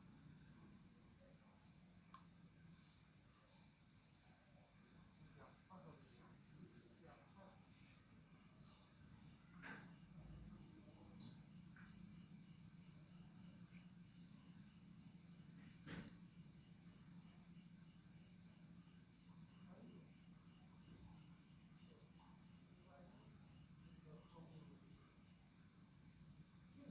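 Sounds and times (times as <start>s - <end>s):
insects chirring: 0.0s - 26.9s.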